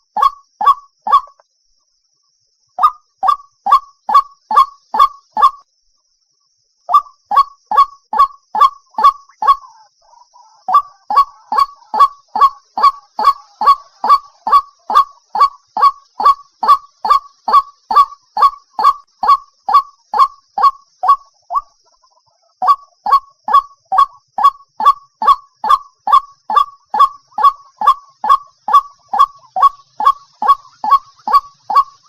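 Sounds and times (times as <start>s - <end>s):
bird calling: 2.8s - 5.6s, 6.9s - 32.0s.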